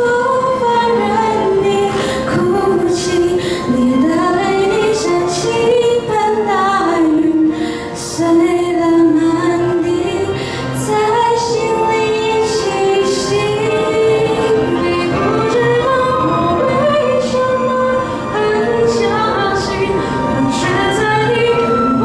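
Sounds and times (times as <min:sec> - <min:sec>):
girls singing through microphones: 0:00.0 - 0:22.0.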